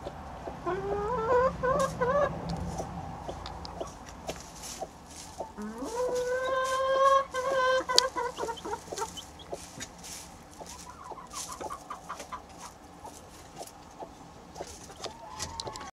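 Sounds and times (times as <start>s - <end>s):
hen calling: 0.0s - 2.5s, 3.2s - 15.9s
hen clucking softly: 0.0s - 15.9s.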